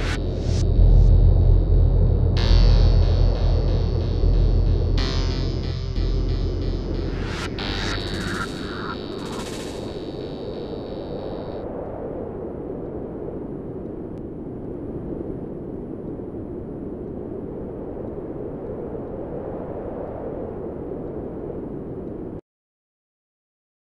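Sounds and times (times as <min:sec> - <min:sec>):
steady low rumbling: 0:00.0 - 0:22.4.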